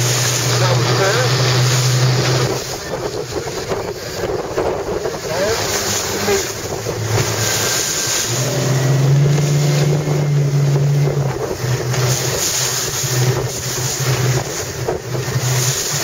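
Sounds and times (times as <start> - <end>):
outboard engine humming: 0.0 - 16.0
rushing water: 0.0 - 16.0
wind on microphone: 0.0 - 16.0.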